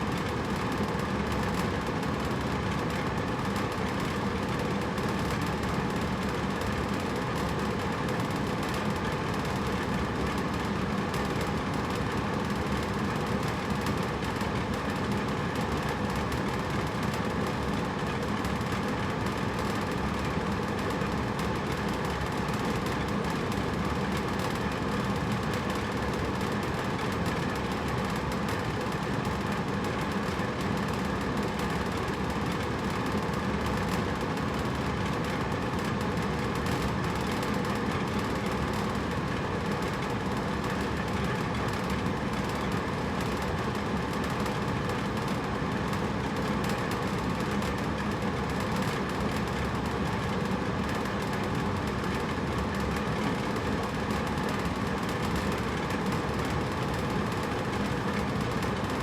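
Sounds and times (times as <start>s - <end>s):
air conditioner running: 0.0s - 59.0s.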